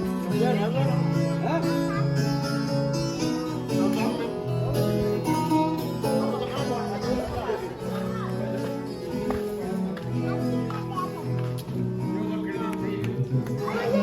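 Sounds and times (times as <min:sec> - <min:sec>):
acoustic guitar plucking: 0:00.0 - 0:14.0.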